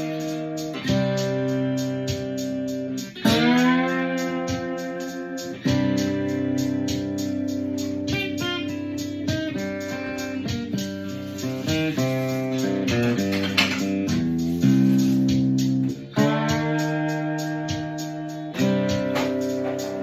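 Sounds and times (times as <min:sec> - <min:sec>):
acoustic guitar chords: 0:00.0 - 0:20.0
steady ticking beat: 0:00.0 - 0:20.0.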